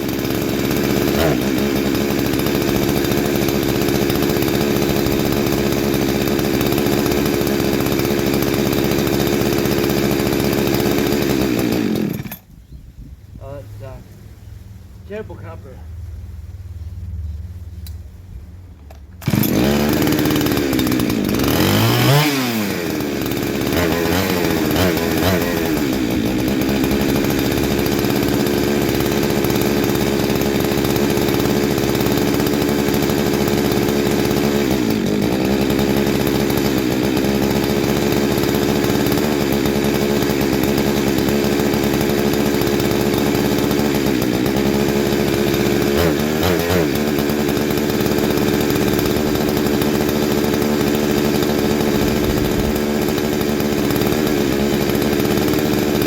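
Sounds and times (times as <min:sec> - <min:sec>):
chainsaw engine revving: 0:00.0 - 0:12.5, 0:13.4 - 0:14.0, 0:14.6 - 0:16.2, 0:17.1 - 0:56.0.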